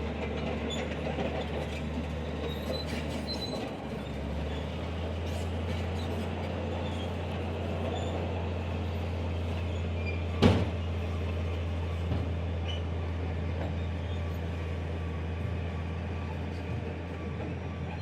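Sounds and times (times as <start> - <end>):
heavy diesel machine droning: 0.0 - 18.0.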